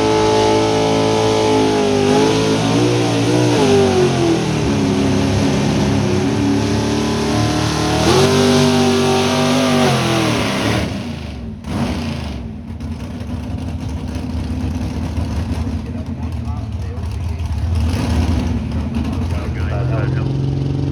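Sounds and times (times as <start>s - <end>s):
truck engine at high revs: 0.0s - 20.9s.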